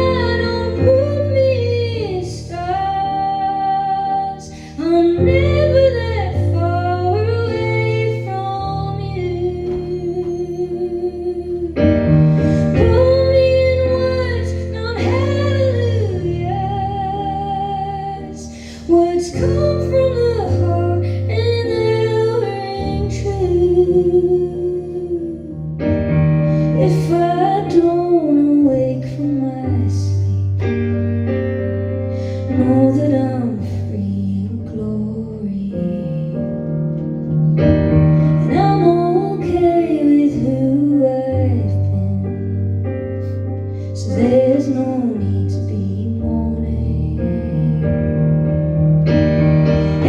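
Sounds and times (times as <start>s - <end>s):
woman singing a slow ballad: 0.0s - 31.0s, 32.1s - 37.4s, 38.2s - 48.6s
sustained piano chords: 0.0s - 50.0s.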